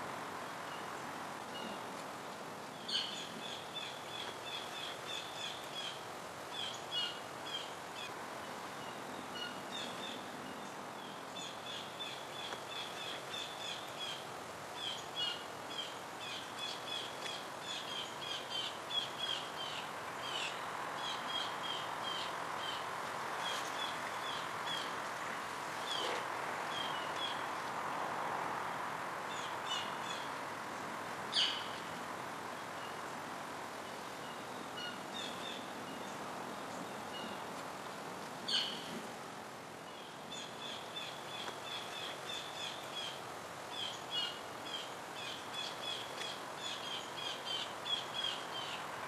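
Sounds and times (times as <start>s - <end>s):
outdoor background hiss: 0.0s - 49.0s.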